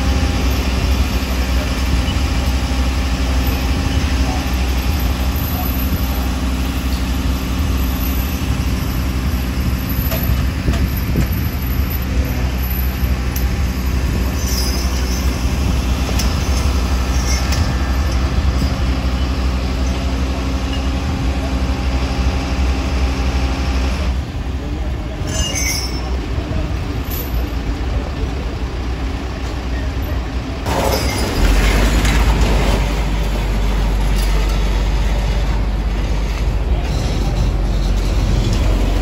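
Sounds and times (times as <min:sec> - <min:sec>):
diesel engine idling: 0:00.0 - 0:25.2, 0:26.2 - 0:39.0.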